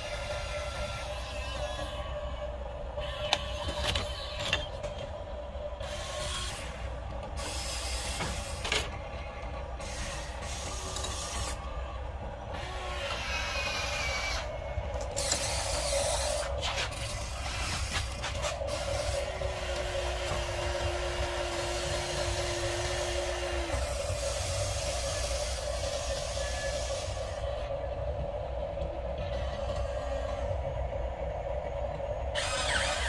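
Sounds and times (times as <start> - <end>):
electric motors whirring: 0.0 - 27.7, 32.2 - 33.0.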